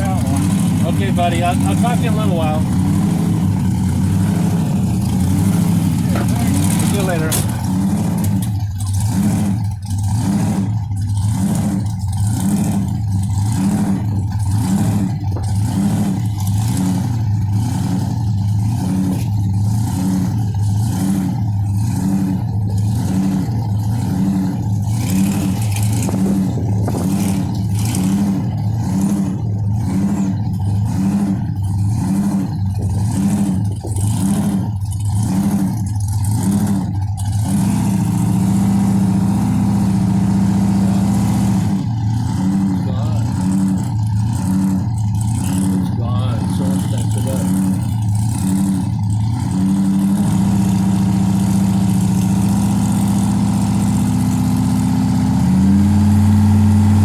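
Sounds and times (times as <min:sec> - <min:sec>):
car engine pulsing drone: 0:00.0 - 0:57.0.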